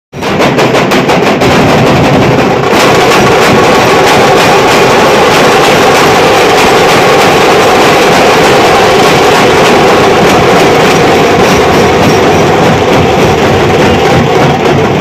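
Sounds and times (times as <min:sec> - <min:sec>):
procession drums: 0:00.2 - 0:15.0.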